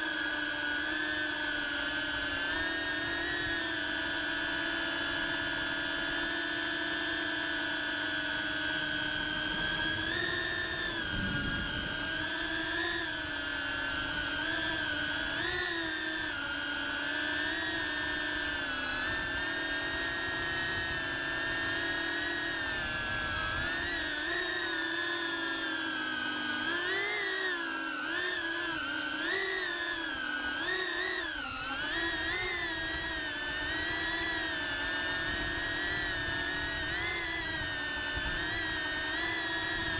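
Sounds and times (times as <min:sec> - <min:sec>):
drone propellers whining: 0:01.5 - 0:39.9.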